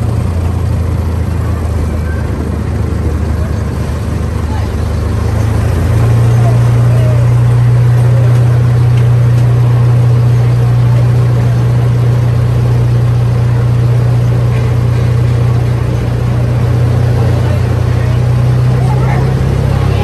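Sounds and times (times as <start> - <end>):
miniature train engine droning: 0.0 - 20.0.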